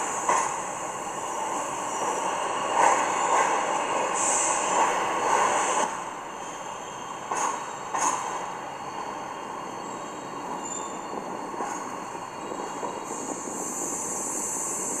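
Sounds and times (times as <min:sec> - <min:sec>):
high-pitched hiss: 0:00.0 - 0:15.0
train wheels on rails: 0:00.0 - 0:15.0.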